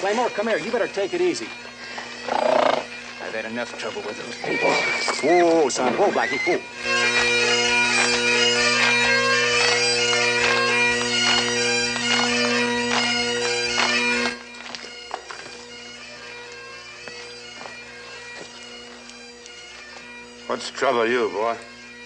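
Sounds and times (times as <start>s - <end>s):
bagpipes playing lively tune: 0.0s - 22.0s.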